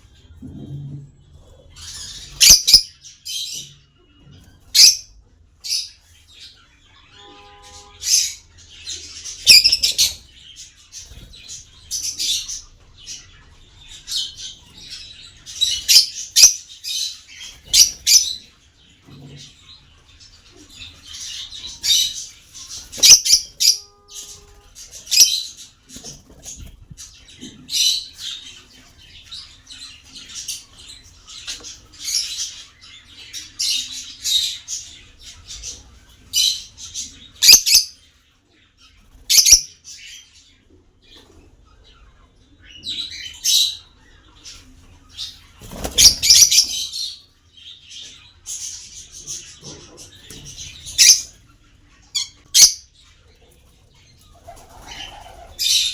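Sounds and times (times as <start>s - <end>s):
parrots chirping and squawking: 1.6s - 38.2s, 38.9s - 40.3s, 41.0s - 55.9s.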